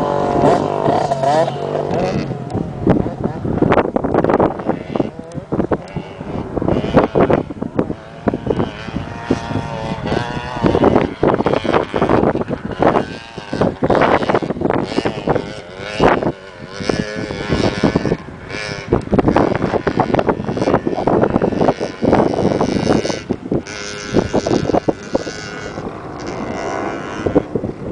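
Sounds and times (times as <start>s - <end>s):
motocross bike engines revving: 0.0s - 27.9s
wind on microphone: 0.0s - 27.9s.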